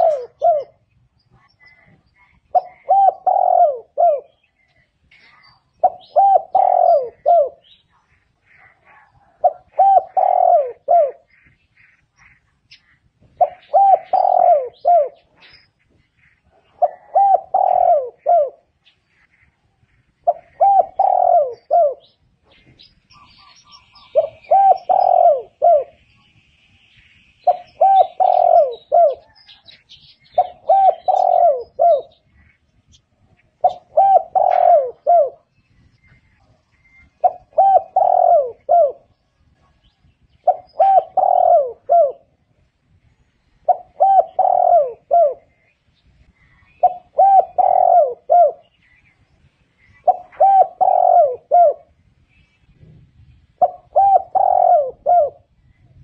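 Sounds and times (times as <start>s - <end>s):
dove cooing: 0.0s - 26.0s, 27.4s - 42.8s, 43.6s - 49.2s, 49.8s - 53.0s, 53.6s - 56.0s.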